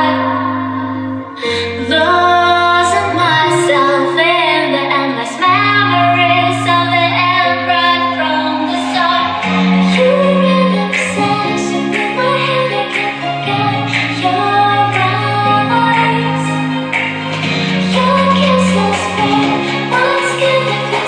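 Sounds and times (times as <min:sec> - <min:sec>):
bass notes through speakers: 0:00.0 - 0:21.0
woman singing: 0:00.0 - 0:21.0.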